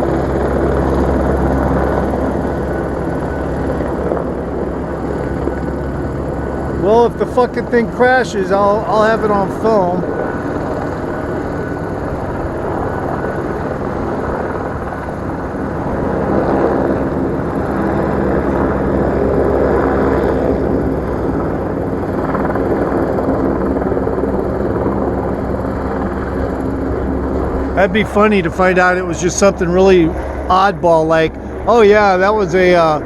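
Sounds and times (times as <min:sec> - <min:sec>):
helicopter rotor chop and engine: 0:00.0 - 0:33.0.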